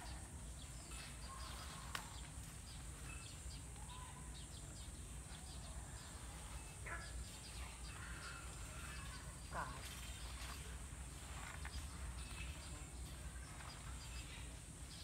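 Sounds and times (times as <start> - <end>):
dry stalks rustling and crackling: 0.0 - 4.0, 5.2 - 15.0
bird calls: 0.0 - 15.0.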